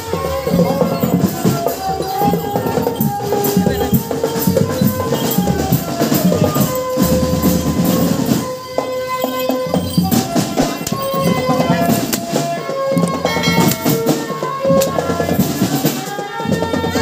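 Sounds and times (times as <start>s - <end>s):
marching drum band playing: 0.0s - 17.0s.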